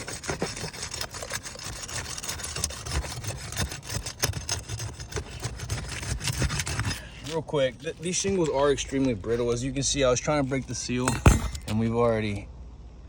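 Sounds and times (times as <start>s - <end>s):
roof shingles crackling and cracking: 0.0s - 10.9s.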